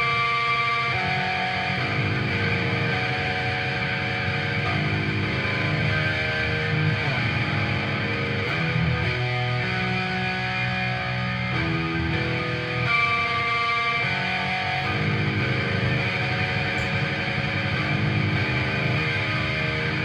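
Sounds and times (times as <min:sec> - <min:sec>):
guitar chords: 0:00.0 - 0:20.0.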